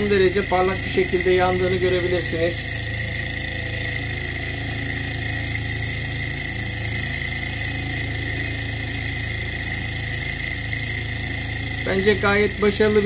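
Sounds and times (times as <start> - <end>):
high-pitched whine: 0.0 - 13.0
stirling engine rattle: 0.0 - 13.0.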